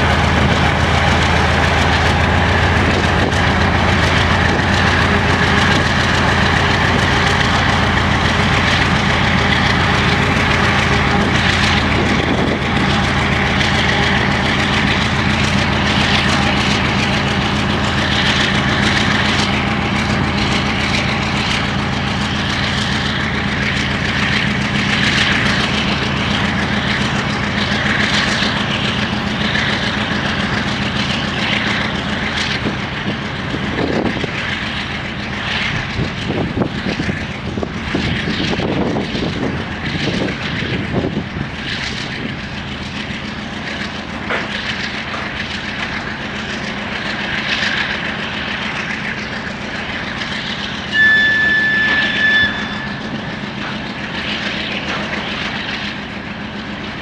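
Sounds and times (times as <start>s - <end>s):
diesel locomotive engine working: 0.0s - 57.0s.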